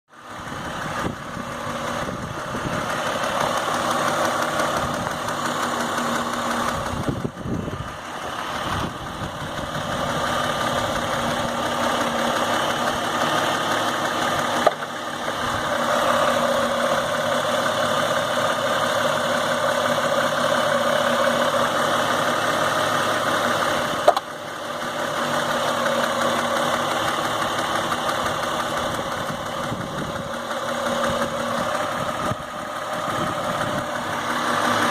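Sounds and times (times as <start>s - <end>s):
car engine idling: 0.1s - 34.9s
ticking from intake manifold: 0.4s - 15.9s, 22.1s - 34.9s.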